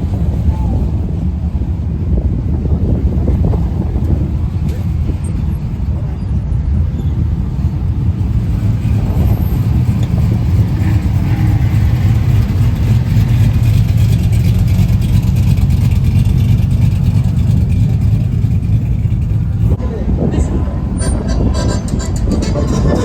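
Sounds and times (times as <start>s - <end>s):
engine deep rumble: 0.0s - 23.0s.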